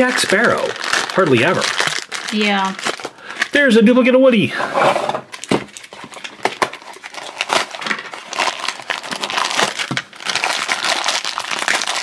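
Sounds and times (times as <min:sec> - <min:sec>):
plastic bag crinkling: 0:00.0 - 0:03.7, 0:05.3 - 0:12.0.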